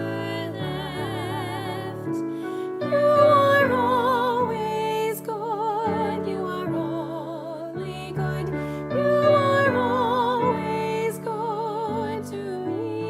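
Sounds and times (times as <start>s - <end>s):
slow gentle music: 0.0s - 13.0s.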